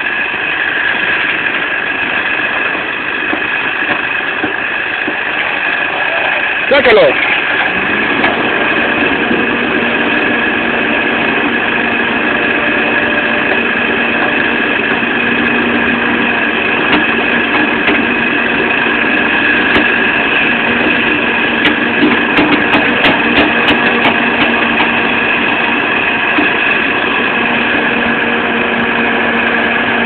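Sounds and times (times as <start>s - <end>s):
excavator engine running: 0.0s - 30.0s
high whine: 0.0s - 30.0s.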